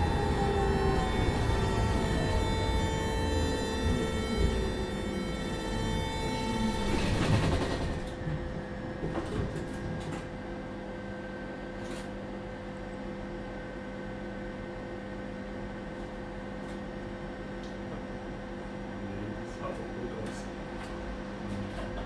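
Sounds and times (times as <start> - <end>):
tram running whine: 0.0 - 19.2.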